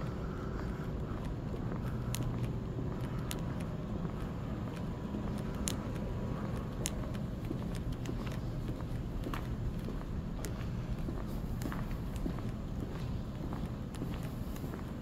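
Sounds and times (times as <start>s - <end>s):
low hum and rumble indoors: 0.0s - 15.0s.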